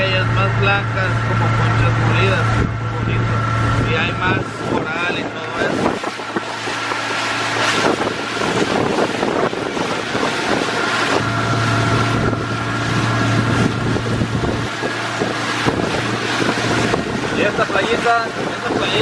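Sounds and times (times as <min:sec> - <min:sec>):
motor boat engine hum: 0:00.0 - 0:19.0
water rushing past hull: 0:00.0 - 0:19.0
wind buffeting microphone: 0:00.0 - 0:19.0.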